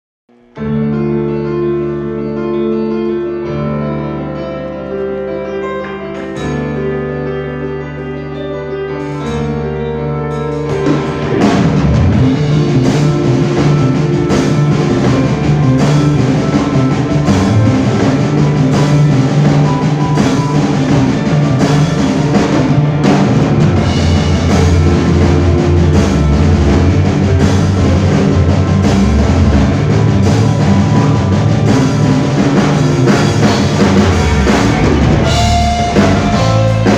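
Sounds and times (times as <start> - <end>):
held keyboard chords: 0.3 - 36.9
rock band playing: 4.9 - 36.9.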